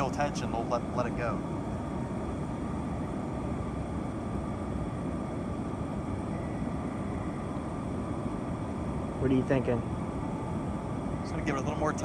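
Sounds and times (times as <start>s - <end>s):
faint high hum: 0.0s - 12.0s
low rumbling background noise: 0.0s - 12.0s.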